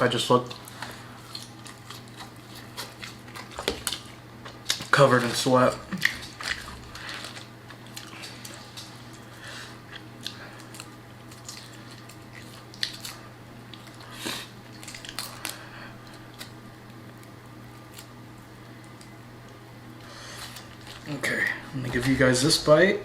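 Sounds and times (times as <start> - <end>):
steady low hum: 0.0 - 23.0
wet chewing: 0.4 - 5.2, 5.9 - 22.2.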